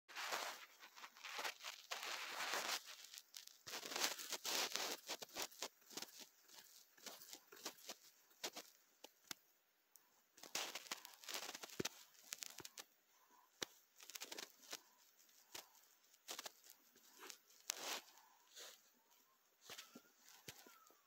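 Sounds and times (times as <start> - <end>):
faint rustling and crinkling: 0.1 - 21.0.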